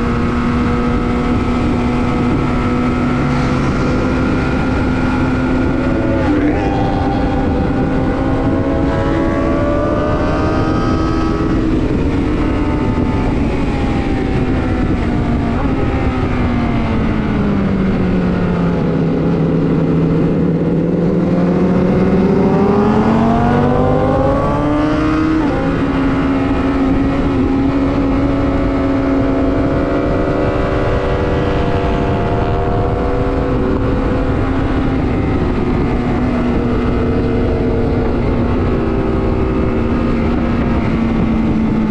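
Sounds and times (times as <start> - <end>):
motorcycle engine running hard: 0.0 - 41.9.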